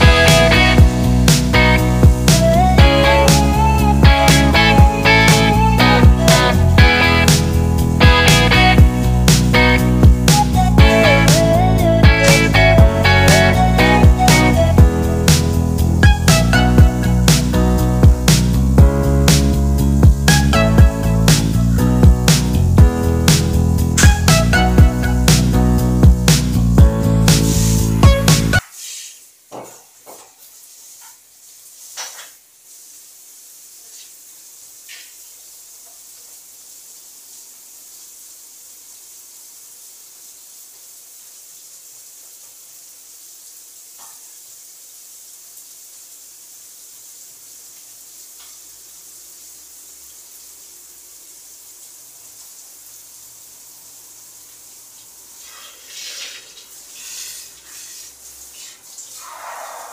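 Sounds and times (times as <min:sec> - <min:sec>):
shower water running: 0:00.0 - 0:59.9.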